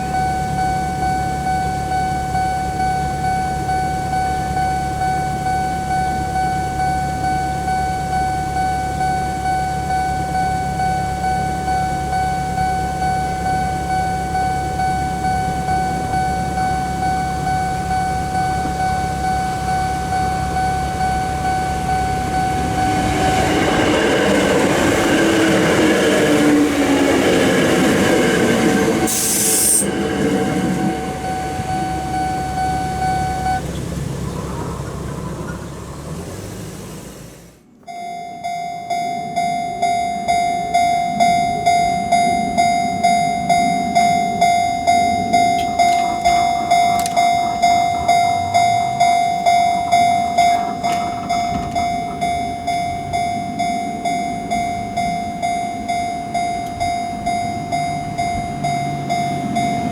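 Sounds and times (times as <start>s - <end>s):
level crossing bell ringing: 0.0s - 33.6s, 37.8s - 59.9s
rail squealing: 0.0s - 36.6s, 38.4s - 59.9s
train wheel rumble: 0.0s - 37.7s, 38.9s - 59.9s.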